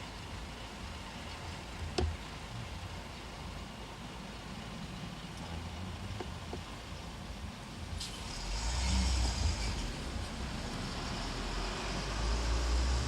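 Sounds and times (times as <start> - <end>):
heavy engine rumbling: 0.0 - 13.0.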